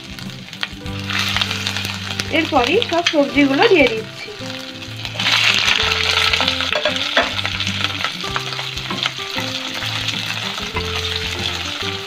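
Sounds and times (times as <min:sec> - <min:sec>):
vegetables sizzling in hot oil: 0:00.0 - 0:12.0
wooden spatula scraping wok: 0:01.0 - 0:12.0.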